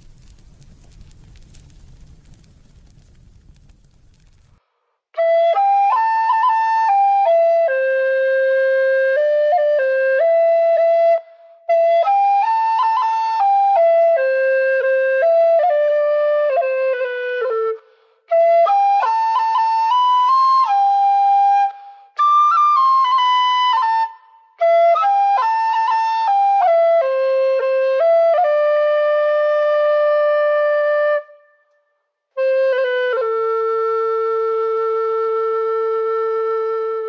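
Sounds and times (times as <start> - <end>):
solo flute melody: 5.1 - 37.0.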